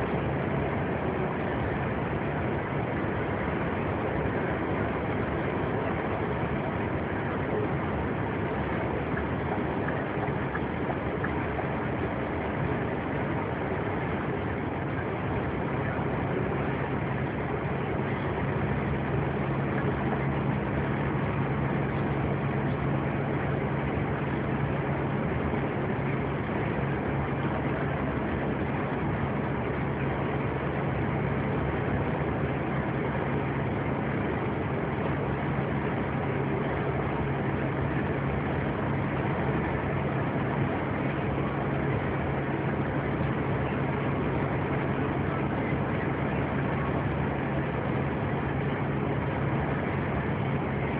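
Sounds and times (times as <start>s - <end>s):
low engine hum: 0.0s - 50.9s.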